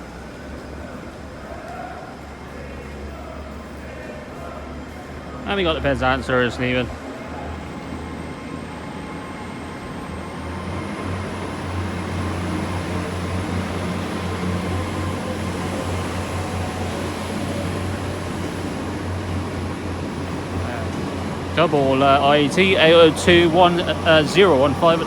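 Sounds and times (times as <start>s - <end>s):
diesel train engines humming: 0.0s - 25.0s
thin high whine: 1.6s - 25.0s.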